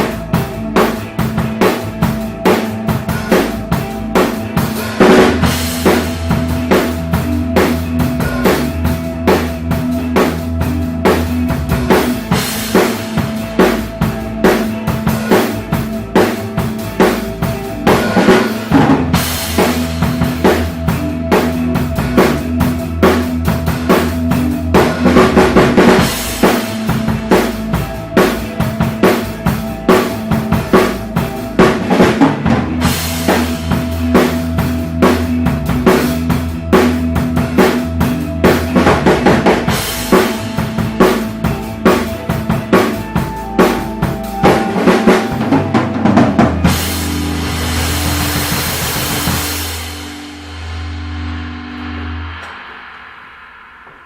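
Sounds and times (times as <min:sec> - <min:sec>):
ambient rock backing track: 0:00.0 - 0:54.0
drum kit groove: 0:00.0 - 0:54.0.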